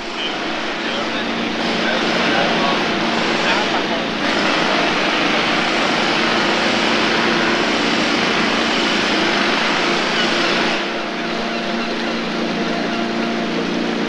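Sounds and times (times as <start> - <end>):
boat motor humming: 0.0 - 14.0
loud rushing noise: 0.0 - 14.0.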